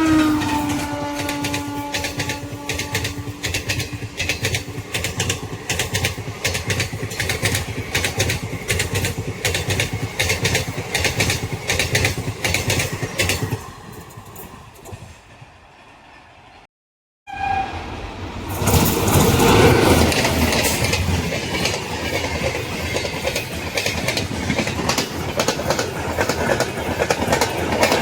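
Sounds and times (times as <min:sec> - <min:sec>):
train rumbling at speed: 0:00.0 - 0:16.7, 0:17.3 - 0:28.0
wheels clacking over rail joints: 0:00.2 - 0:15.1, 0:18.5 - 0:28.0.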